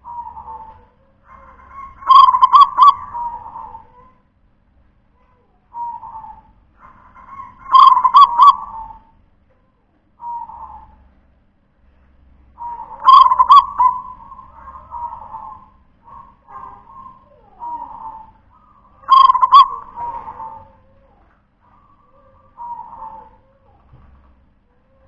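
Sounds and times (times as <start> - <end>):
dove cooing: 0.0 - 4.2, 5.7 - 9.2, 10.2 - 11.1, 12.6 - 25.0.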